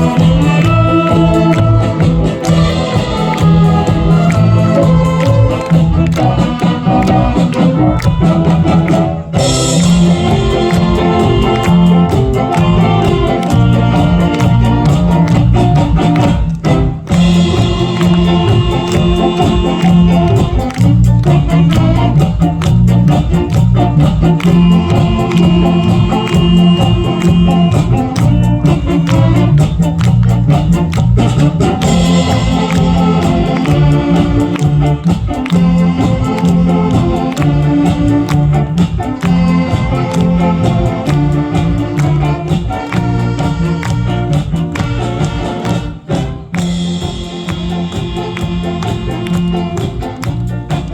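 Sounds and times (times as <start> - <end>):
drum beat: 0.0 - 50.9
saxophone big band playing: 0.0 - 50.9
walking bass line: 0.0 - 50.9.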